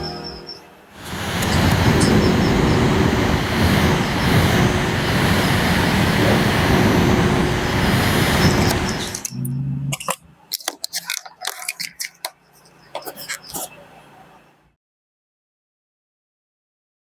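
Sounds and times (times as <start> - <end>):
electric fan running: 0.0 - 14.3.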